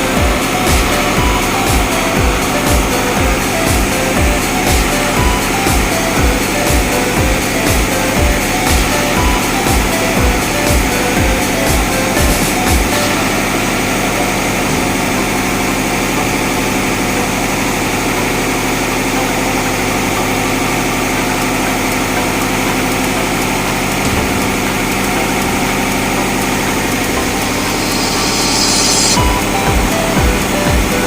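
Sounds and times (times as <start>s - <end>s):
diesel machinery humming: 0.0s - 31.0s.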